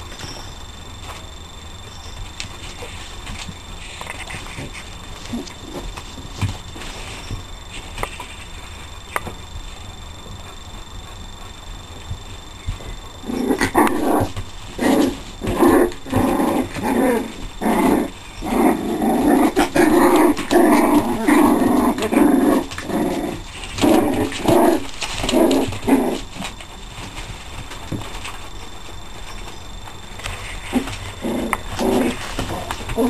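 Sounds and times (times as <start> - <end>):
puppies play-growling: 2.0 - 9.4, 10.2 - 33.0.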